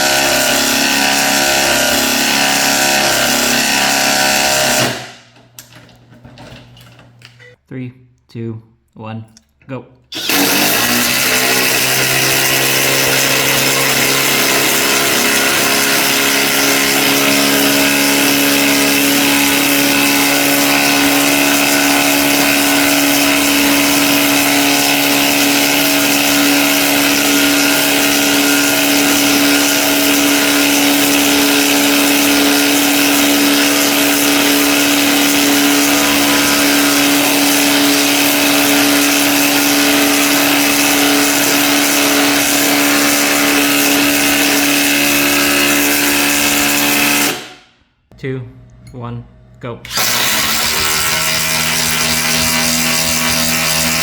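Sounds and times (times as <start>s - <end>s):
impact driver hammering: 0.0s - 5.4s, 10.2s - 47.6s, 49.9s - 54.0s.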